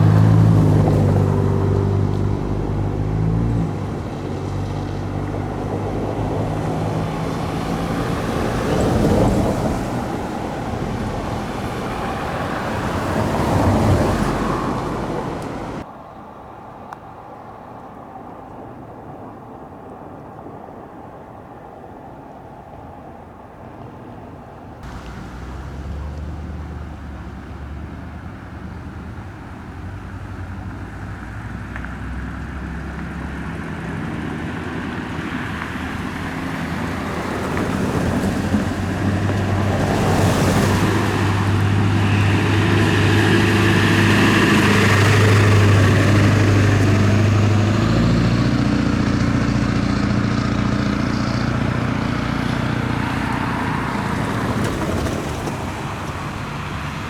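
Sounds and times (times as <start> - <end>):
vehicle motor humming: 0.0 - 15.9, 24.8 - 57.0.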